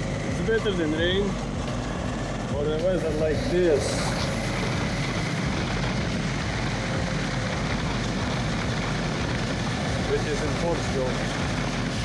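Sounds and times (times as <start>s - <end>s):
motorcycle engine drone: 0.0s - 12.0s
road noise: 0.0s - 12.0s.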